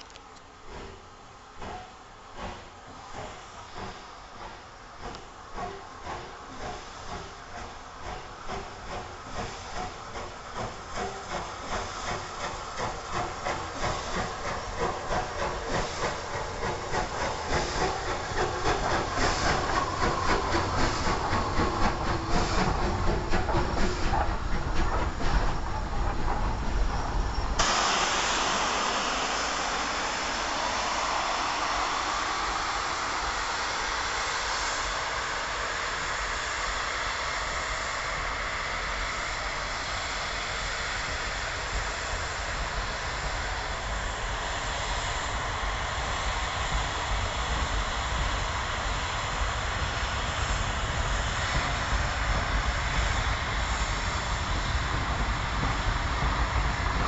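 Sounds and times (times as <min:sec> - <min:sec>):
steam locomotive passing: 0:00.0 - 0:57.0
steam train rushing roar: 0:00.5 - 0:57.0.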